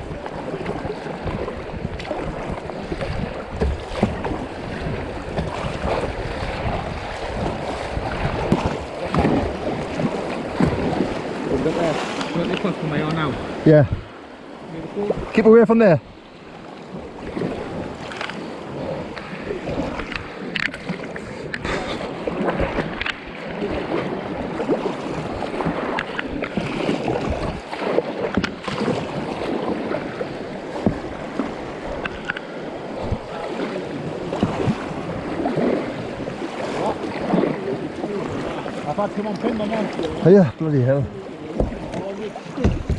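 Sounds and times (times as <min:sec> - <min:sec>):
paddle strokes splashing: 0:00.0 - 0:42.9
river water rushing: 0:00.0 - 0:42.9.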